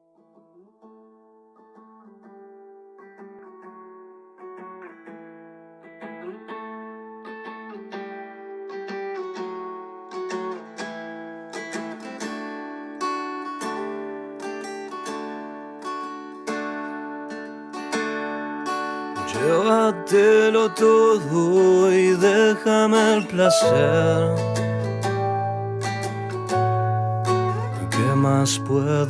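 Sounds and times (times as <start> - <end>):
strummed acoustic guitar chords: 4.5 - 29.0.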